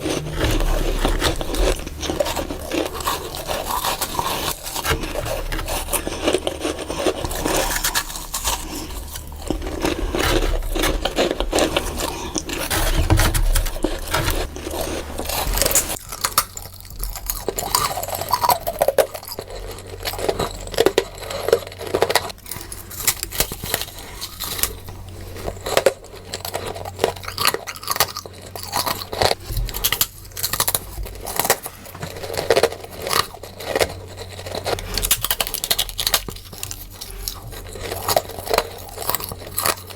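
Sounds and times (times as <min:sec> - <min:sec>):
chewing frost crunching: 0:00.0 - 0:39.9.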